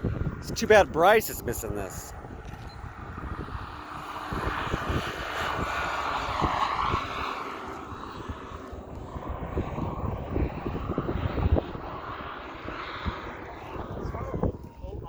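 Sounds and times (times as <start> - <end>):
model helicopter flying: 0.0 - 15.0
wind rumble on microphone: 0.0 - 15.0.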